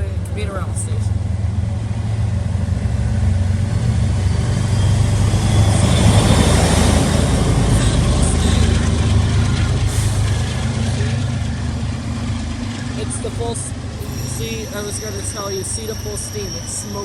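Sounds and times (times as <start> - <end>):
diesel locomotive engine under load: 0.0 - 17.0
rumble of moving train: 0.0 - 17.0.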